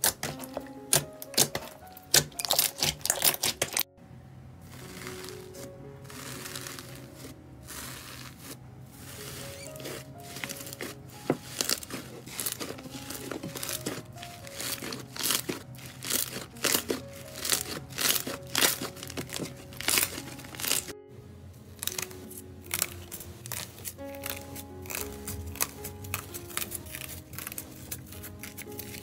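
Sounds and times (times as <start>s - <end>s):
foil crinkling: 0.0s - 3.9s, 4.7s - 21.0s, 21.7s - 29.0s
slime crackling and popping: 0.0s - 3.9s, 4.6s - 21.0s, 21.7s - 29.0s
soft background music: 0.0s - 29.0s.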